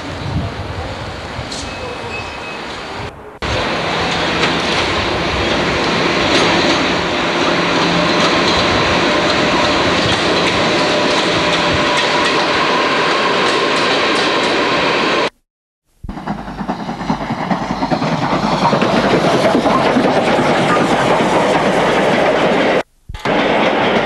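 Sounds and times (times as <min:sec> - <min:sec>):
train running on rails: 0:00.0 - 0:15.3, 0:16.1 - 0:24.0.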